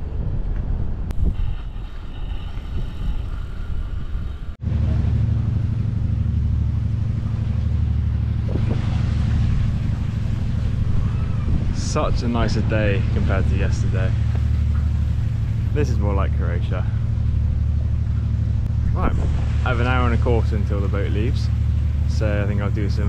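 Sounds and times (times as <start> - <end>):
diesel engines droning: 0.0 - 23.0
wind rumbling on microphone: 0.0 - 23.0.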